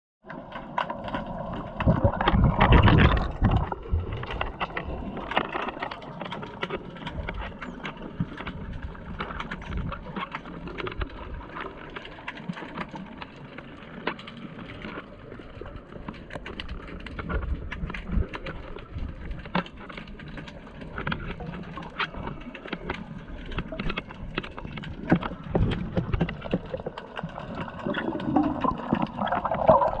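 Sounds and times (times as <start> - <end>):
underwater clicks and crackles: 0.2 - 30.0
underwater water gurgling: 0.2 - 30.0
water rushing swashes: 0.3 - 30.0.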